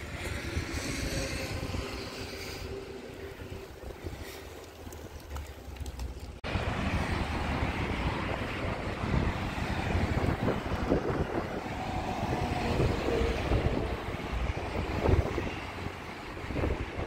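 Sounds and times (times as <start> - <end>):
bike rolling rumble: 0.0 - 17.0
wind buffeting microphone: 0.0 - 17.0.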